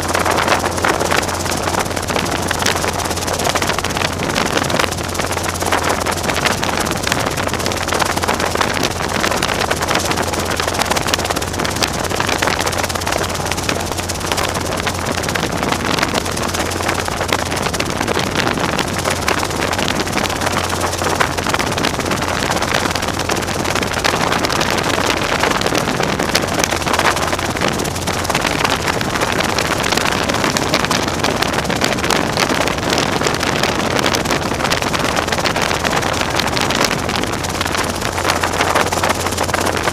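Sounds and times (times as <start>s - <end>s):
helicopter engine and rotors: 0.0s - 39.9s
wind rush on microphone: 0.0s - 39.9s.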